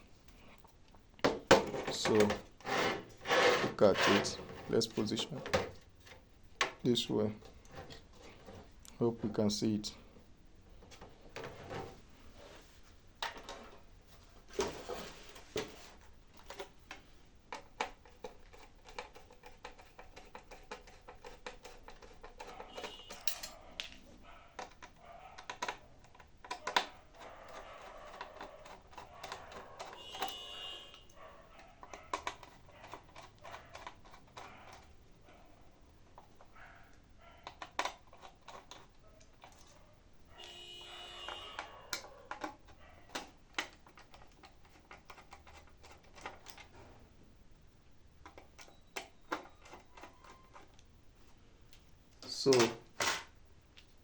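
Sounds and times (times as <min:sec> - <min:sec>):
hard drive and casing handled: 0:01.2 - 0:09.4, 0:10.8 - 0:35.5, 0:36.1 - 0:46.8, 0:48.2 - 0:50.8.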